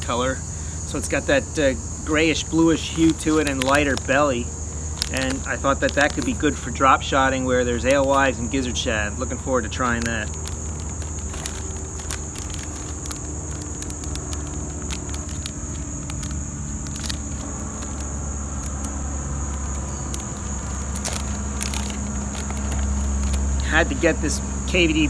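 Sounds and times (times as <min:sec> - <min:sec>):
crickets chirping: 0:00.0 - 0:25.0
plastic packaging crinkling: 0:02.4 - 0:24.9.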